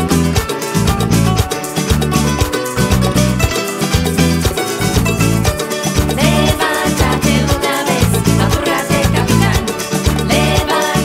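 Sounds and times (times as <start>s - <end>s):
bass line: 0.0s - 11.0s
plucked strings: 0.0s - 11.0s.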